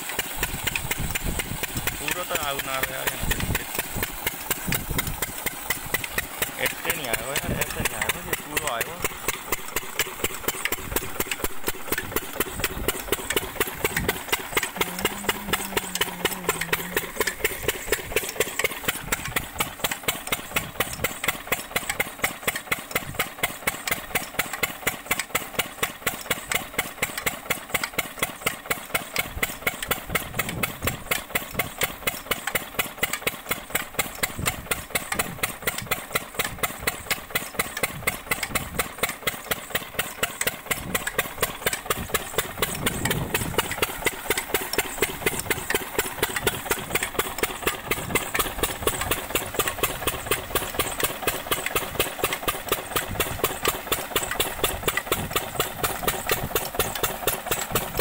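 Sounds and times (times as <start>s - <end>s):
diesel engine running: 0.0s - 58.0s
water gushing from pipe: 0.0s - 58.0s.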